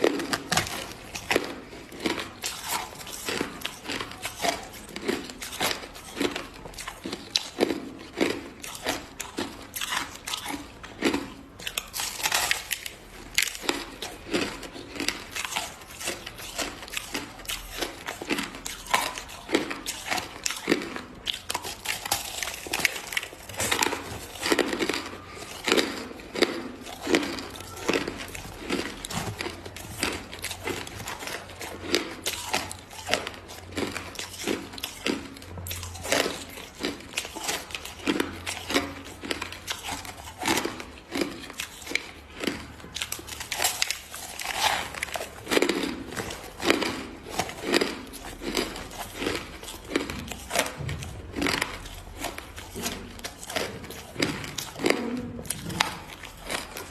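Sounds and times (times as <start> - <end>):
crushed ice being chewed: 0.0 - 56.9.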